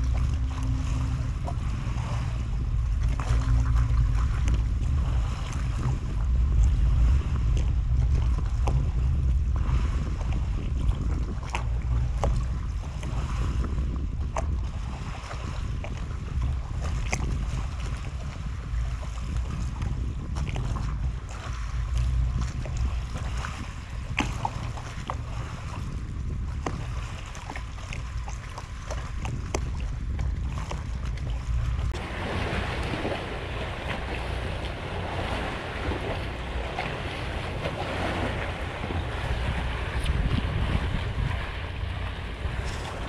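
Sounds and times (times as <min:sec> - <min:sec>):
water lapping: 0:00.0 - 0:43.0
wind buffeting microphone: 0:00.0 - 0:43.0.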